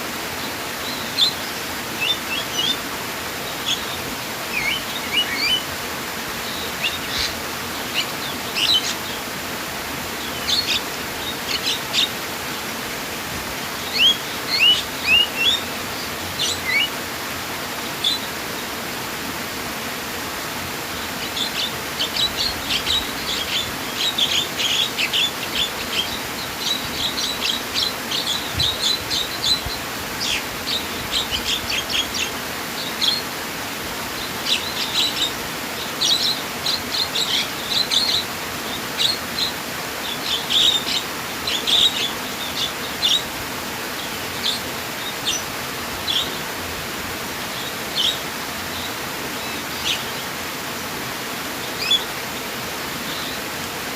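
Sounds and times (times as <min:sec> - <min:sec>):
flowing water rushing: 0:00.0 - 0:53.9
small birds chirping: 0:00.2 - 0:17.0, 0:17.7 - 0:18.7, 0:20.8 - 0:33.4, 0:34.0 - 0:50.5, 0:51.4 - 0:53.9.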